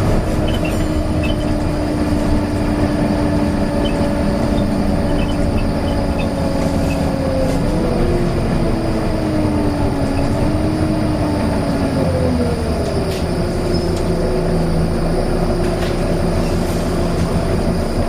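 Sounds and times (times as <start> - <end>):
bus engine rumble: 0.0 - 18.0
bus engine whine: 0.0 - 18.0.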